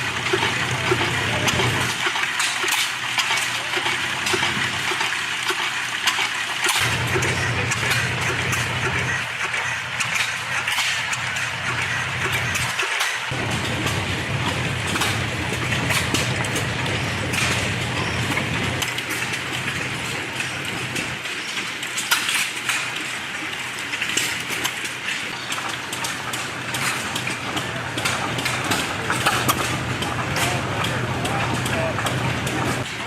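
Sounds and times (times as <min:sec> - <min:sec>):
small engines popping: 0:00.0 - 0:33.0
steady mechanical noise: 0:00.0 - 0:33.0.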